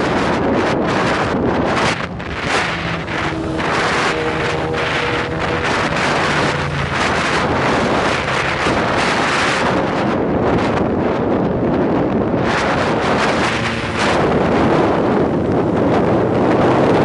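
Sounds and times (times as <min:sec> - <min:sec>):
heavy wind over microphone: 0:00.0 - 0:17.0
motorcycle engine hum: 0:00.0 - 0:17.0.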